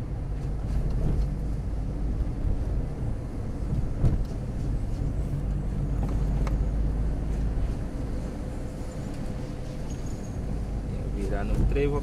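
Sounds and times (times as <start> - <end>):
car driving on wet road: 0.0 - 12.0.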